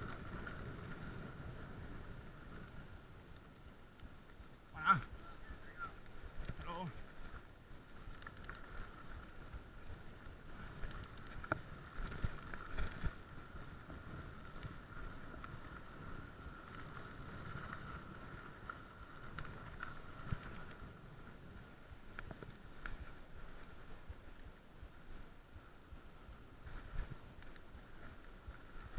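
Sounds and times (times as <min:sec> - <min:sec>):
bicycle rumbling on rough track: 0:00.0 - 0:28.9
constant high hum: 0:00.0 - 0:28.9.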